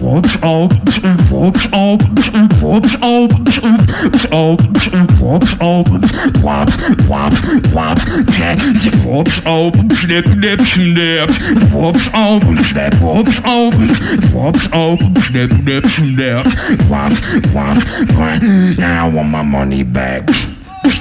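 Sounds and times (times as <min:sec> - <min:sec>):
beatboxing into a microphone: 0:00.0 - 0:21.0.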